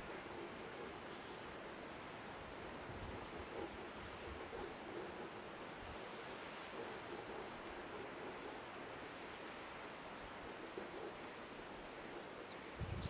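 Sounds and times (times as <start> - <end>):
faint sea surf: 0.0 - 13.0.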